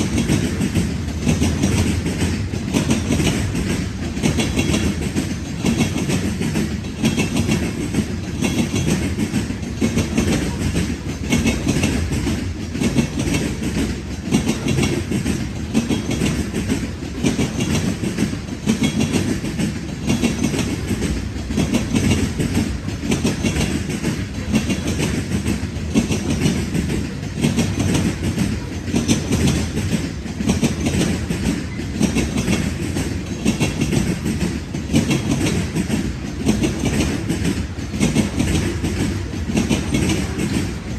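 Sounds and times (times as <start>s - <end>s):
freight train rumbling past: 0.0s - 40.9s
wheels clicking over rail joints: 0.0s - 40.9s.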